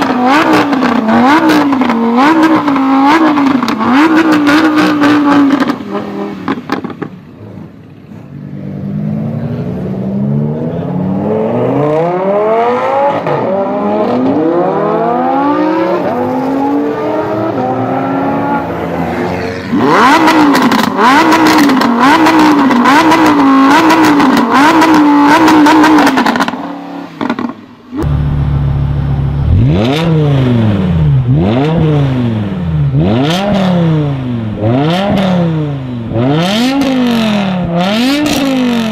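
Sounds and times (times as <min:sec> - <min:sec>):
sports car engine revving: 0:00.0 - 0:38.9.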